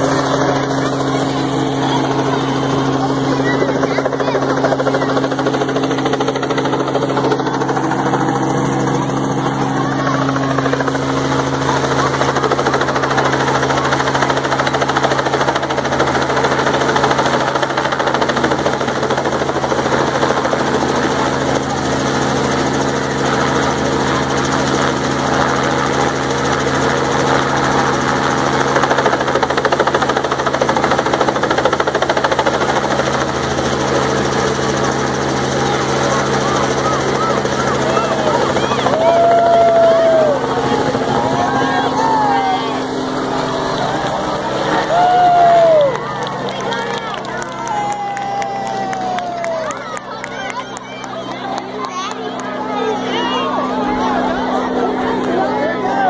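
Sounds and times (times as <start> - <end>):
helicopter flying overhead: 0.0 - 56.0.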